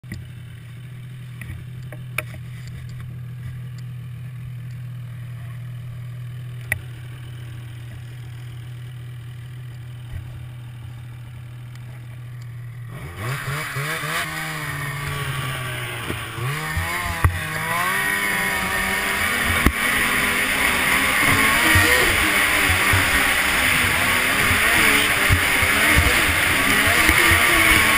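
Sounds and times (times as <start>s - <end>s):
snowmobile engine: 0.0s - 27.9s.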